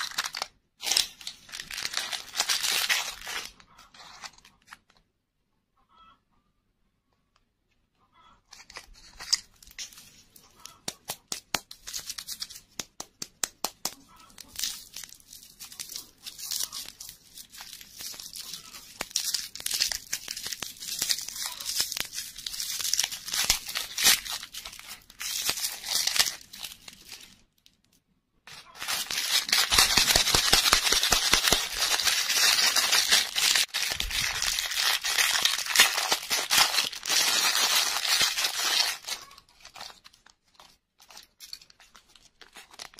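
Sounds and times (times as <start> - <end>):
candy foil crinkling: 0.0 - 5.0, 8.5 - 42.9
plastic wrapper crinkling and tearing: 0.0 - 5.0, 8.5 - 42.9.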